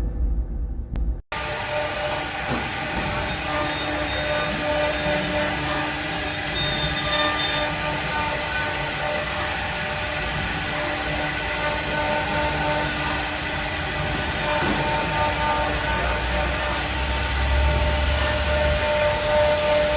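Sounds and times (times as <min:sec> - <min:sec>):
router mechanical din: 0:01.4 - 0:19.9.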